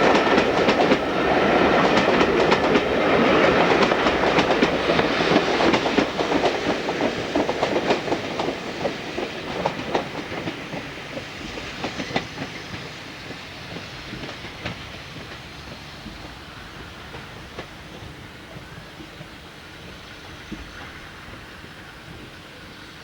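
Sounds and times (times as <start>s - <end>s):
train wheels clicking over rails: 0.0s - 23.0s.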